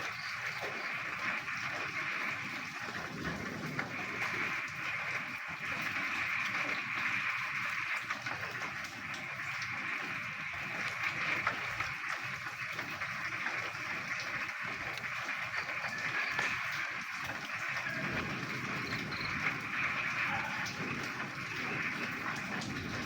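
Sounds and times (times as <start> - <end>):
chorus of frogs calling: 0.0 - 23.0
rain: 0.0 - 23.0.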